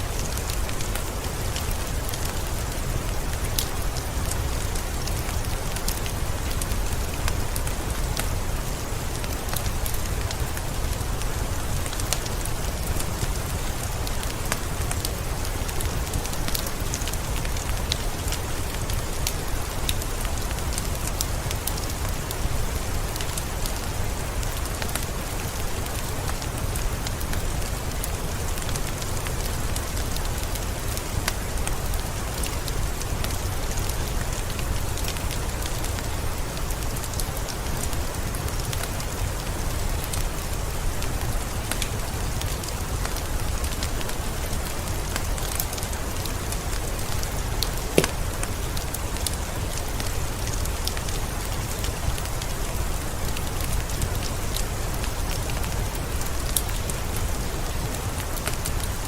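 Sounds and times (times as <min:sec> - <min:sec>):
heavy rain patter: 0:00.0 - 0:59.0.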